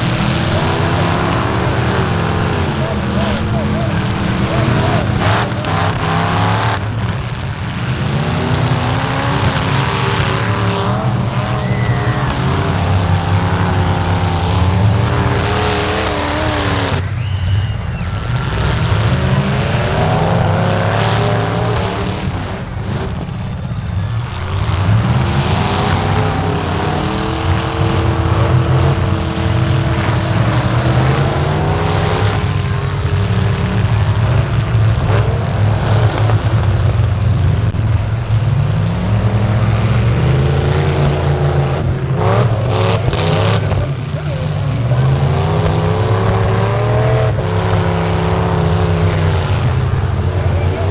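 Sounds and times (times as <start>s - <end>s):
truck engines revving: 0.0s - 50.9s.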